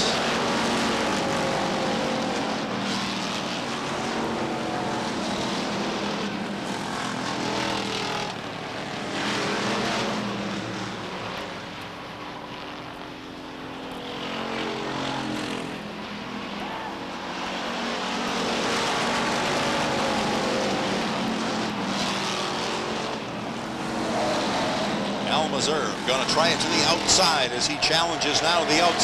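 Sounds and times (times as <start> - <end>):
race car engines at high revs: 0.0 - 29.0.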